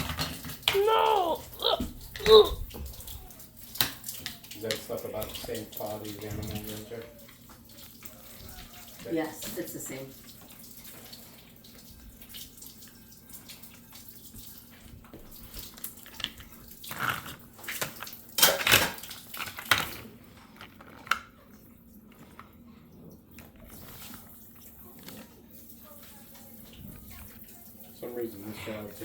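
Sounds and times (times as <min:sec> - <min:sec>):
water splashing in a sink: 0:00.0 - 0:20.4, 0:21.2 - 0:29.0.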